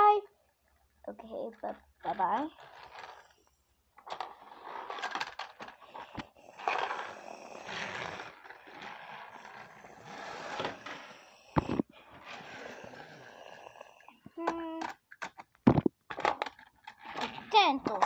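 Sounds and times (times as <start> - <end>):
plastic toys scraping and rustling: 0.6 - 18.0.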